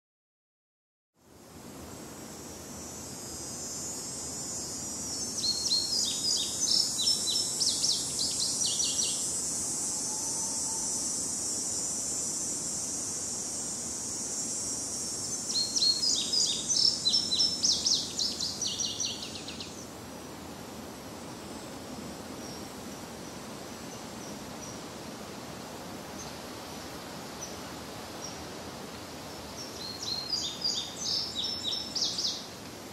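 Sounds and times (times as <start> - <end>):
insects droning: 1.2 - 32.9
songbird singing: 2.8 - 11.3, 12.9 - 20.4, 21.1 - 32.7.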